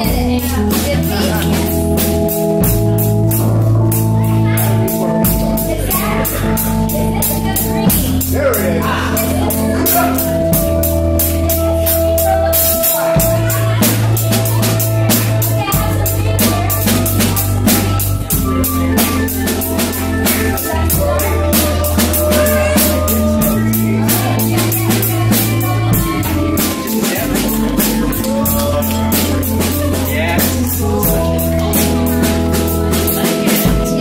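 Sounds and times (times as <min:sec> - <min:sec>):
drum kit fast beat: 0:00.0 - 0:34.0
organ holding low notes: 0:00.0 - 0:34.0.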